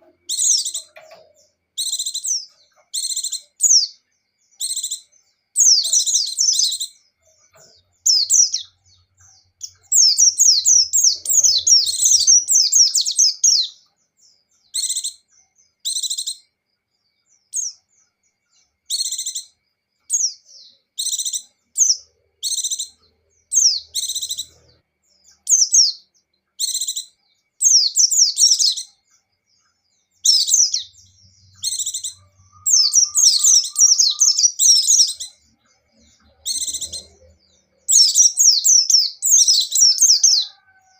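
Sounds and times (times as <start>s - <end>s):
bird chirping and chattering: 0.0s - 16.6s, 17.2s - 40.9s.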